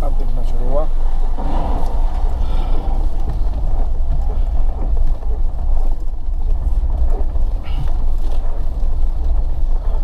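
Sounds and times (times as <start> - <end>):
car rumbling on rough road: 0.0 - 10.0.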